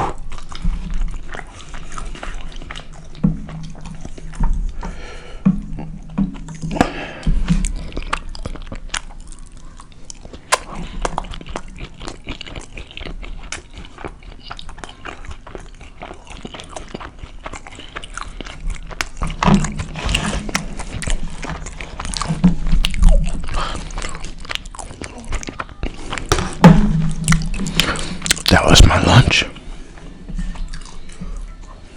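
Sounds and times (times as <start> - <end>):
chewing and wet mouth clicks: 0.1 - 4.9, 7.5 - 26.6, 27.2 - 28.8, 30.6 - 31.2.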